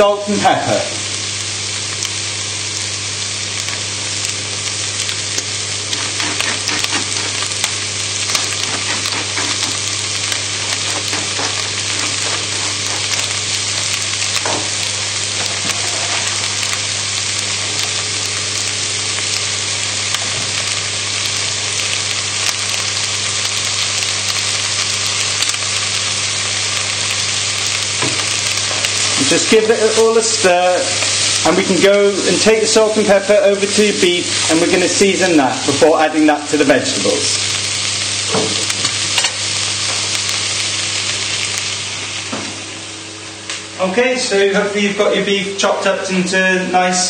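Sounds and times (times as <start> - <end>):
vegetables sizzling in a pot: 0.0 - 47.0.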